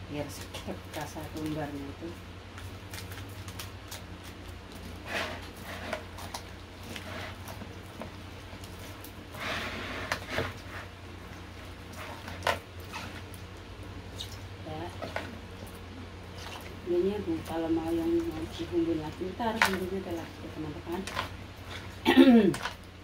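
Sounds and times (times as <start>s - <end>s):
steady low hum: 0.0s - 23.0s
gloved hands handling fish: 0.4s - 23.0s.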